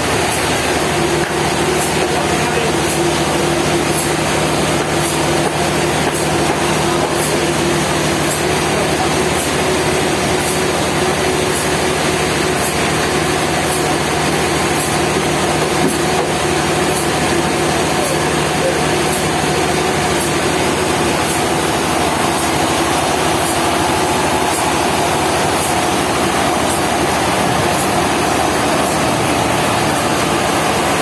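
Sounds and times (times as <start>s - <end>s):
sawmill machinery humming: 0.0s - 31.0s.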